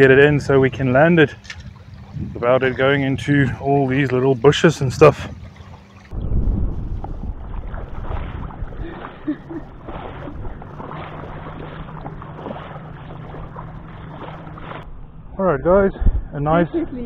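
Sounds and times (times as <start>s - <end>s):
water splashing and sloshing: 0.0s - 15.1s.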